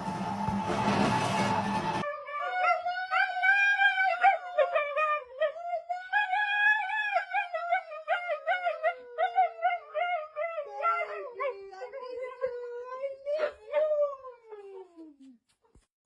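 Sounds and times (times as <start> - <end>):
dog howling: 2.0 - 15.2.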